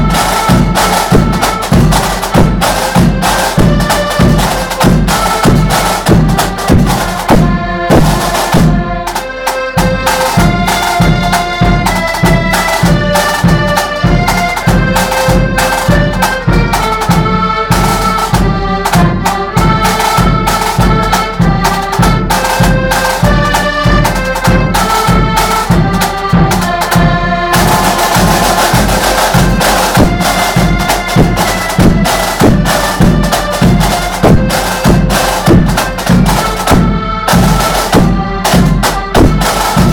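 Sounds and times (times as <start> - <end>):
accordions playing a march: 0.0 - 39.9
drums beating: 0.0 - 39.9.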